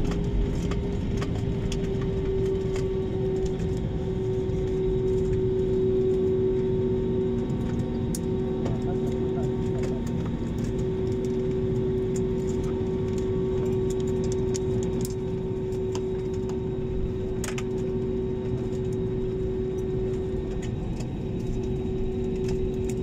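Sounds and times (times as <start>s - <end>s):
constant mid-pitched hum: 0.0s - 23.0s
jet taxiing low rumble: 0.0s - 23.0s
light clicks and rattles in cabin: 0.0s - 23.0s.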